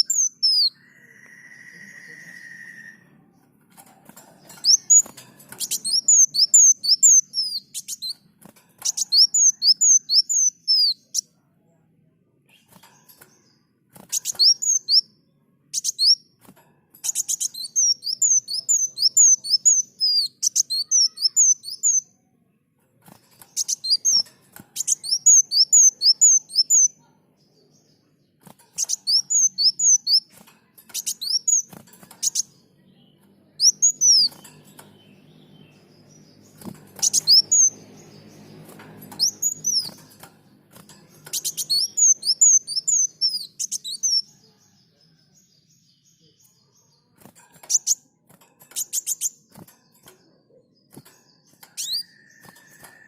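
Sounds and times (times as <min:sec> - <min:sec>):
sunbird singing high chirps: 0:00.0 - 0:03.4, 0:04.4 - 0:11.2, 0:12.5 - 0:16.3, 0:17.0 - 0:22.3, 0:23.4 - 0:28.0, 0:28.7 - 0:30.3, 0:30.9 - 0:48.1, 0:50.6 - 0:53.0.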